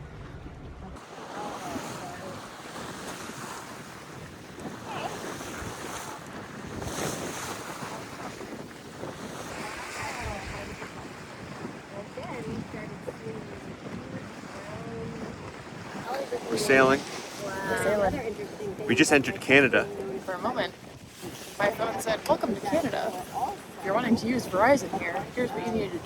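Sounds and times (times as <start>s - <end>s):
water rushing along boat: 0.0s - 26.0s
wind buffeting microphone: 0.0s - 26.0s.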